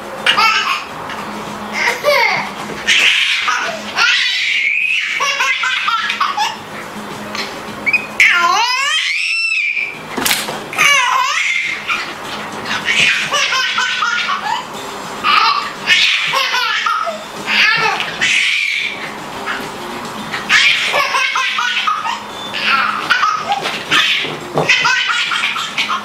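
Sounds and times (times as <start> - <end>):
baby laughing: 0.2 - 1.0, 1.8 - 6.7, 7.3 - 10.0, 10.7 - 19.7, 20.3 - 26.0.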